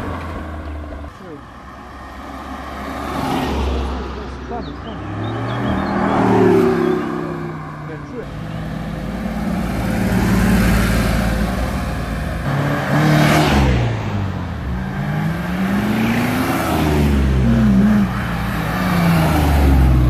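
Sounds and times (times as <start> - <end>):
car engines revving and passing: 0.0 - 20.0.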